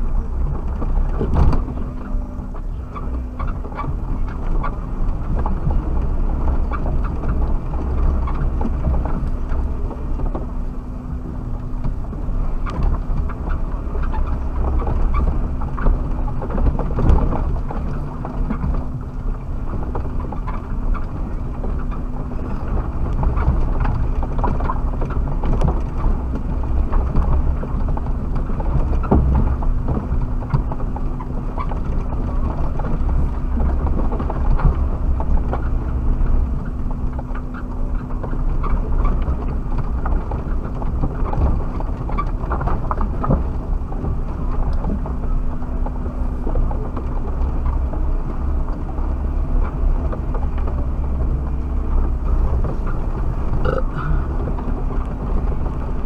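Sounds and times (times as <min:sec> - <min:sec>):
knocks and rattles of vehicle body: 0:00.0 - 0:56.0
vehicle engine drone: 0:00.0 - 0:56.0.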